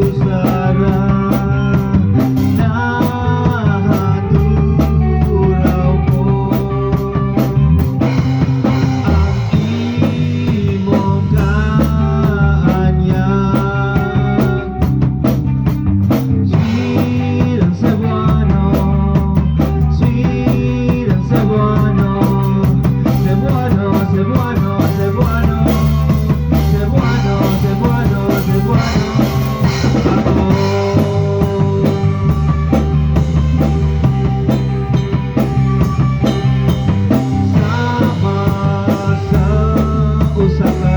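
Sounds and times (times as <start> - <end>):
pitch-bending lead melody: 0.0 - 21.3, 21.9 - 40.9
rock band playing live: 0.0 - 40.9.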